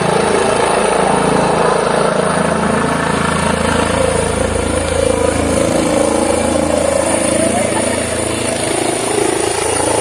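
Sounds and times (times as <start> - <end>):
helicopter rotor and turbine: 0.0 - 10.0.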